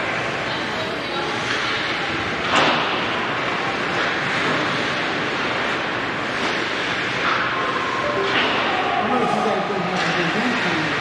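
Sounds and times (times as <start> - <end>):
arena crowd hubbub: 0.0 - 11.0.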